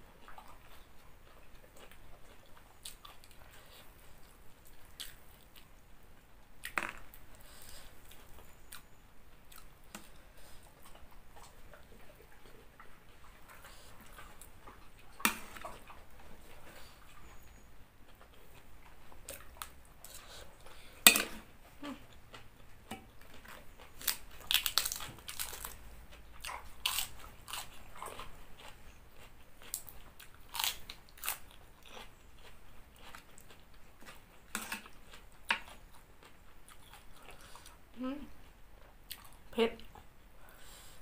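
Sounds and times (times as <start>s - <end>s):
person chewing crunchy salad: 0.2s - 5.8s, 6.6s - 40.0s.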